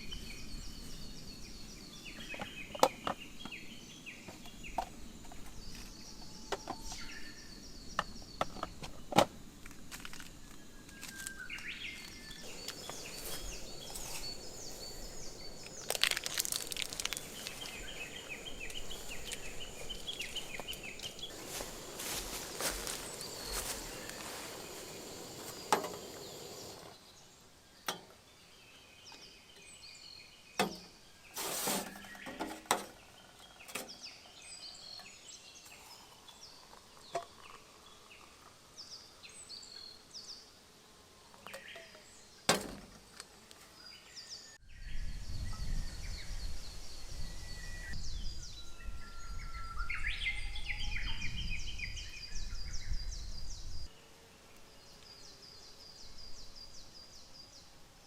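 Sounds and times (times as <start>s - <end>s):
songbirds singing and trilling: 0.0s - 9.4s, 10.4s - 57.8s.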